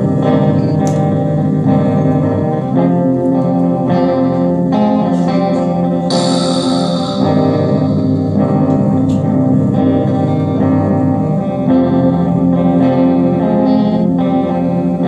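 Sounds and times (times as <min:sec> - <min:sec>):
guitar playing chords: 0:00.0 - 0:15.0.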